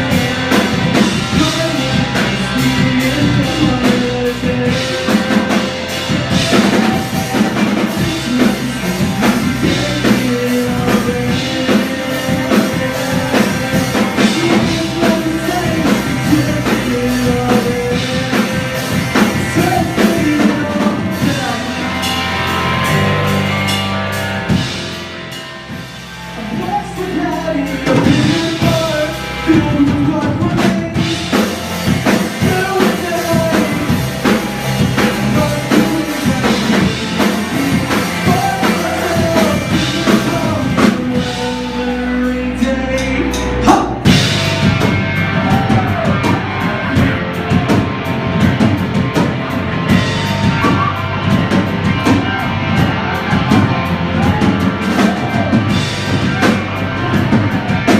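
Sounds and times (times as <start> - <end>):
person singing lead vocal: 0.0 - 23.4, 26.1 - 57.9
bass guitar: 0.0 - 57.9
drum kit: 0.0 - 57.9
electric guitar: 0.0 - 57.9.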